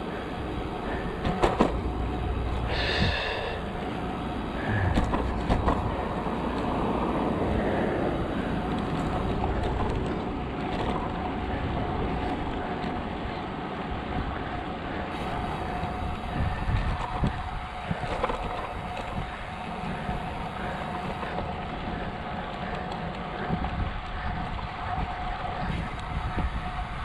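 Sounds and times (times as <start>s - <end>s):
traffic rumble: 0.0s - 27.0s
wind rumble: 0.0s - 27.0s.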